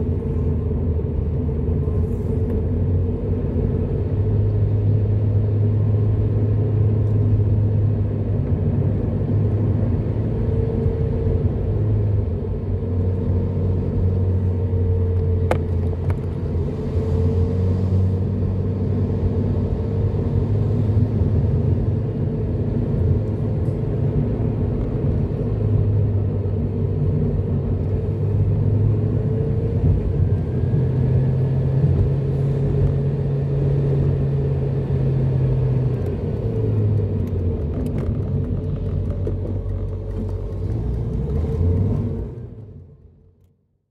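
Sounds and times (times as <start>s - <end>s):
tyre road noise: 0.0s - 43.7s
car engine hum while driving: 0.0s - 43.8s.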